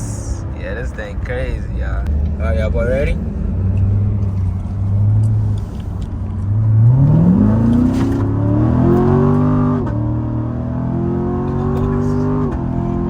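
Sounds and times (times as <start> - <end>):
car engine accelerating hard: 1.0 - 13.0.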